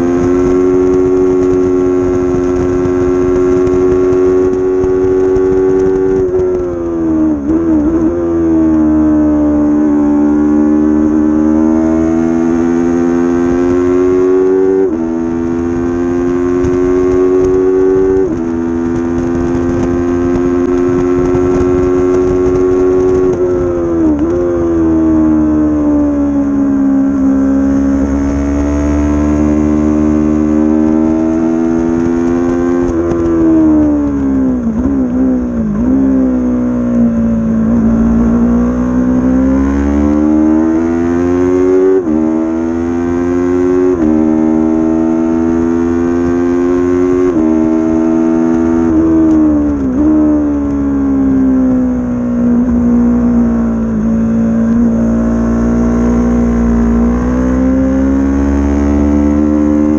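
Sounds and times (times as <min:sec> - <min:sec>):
race motorcycle engine: 0:00.0 - 0:59.9.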